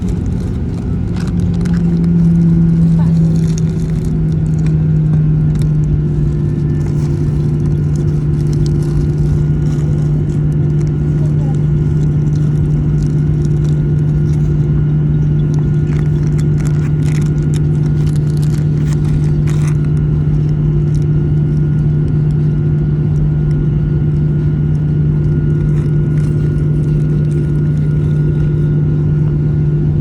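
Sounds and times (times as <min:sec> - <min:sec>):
jet engine cabin drone: 0:00.0 - 0:30.0.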